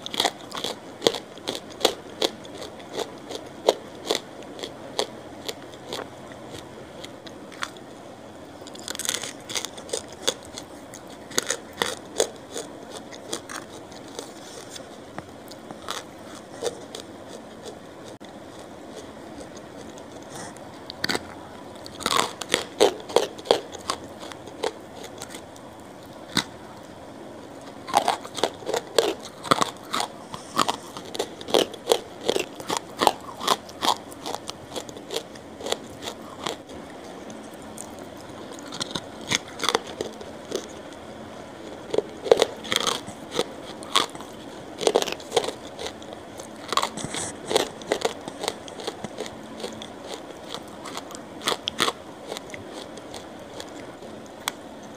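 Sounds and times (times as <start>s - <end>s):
person chewing crunchy food: 0.0s - 7.9s, 8.6s - 54.9s.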